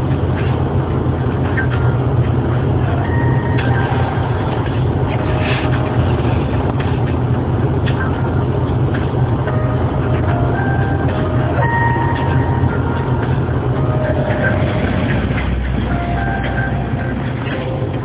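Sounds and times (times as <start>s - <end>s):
loud low rumbling: 0.0s - 18.0s.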